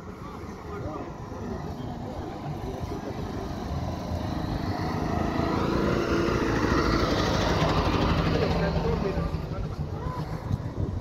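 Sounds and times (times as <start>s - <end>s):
small car engine driving slowly: 0.0s - 11.0s.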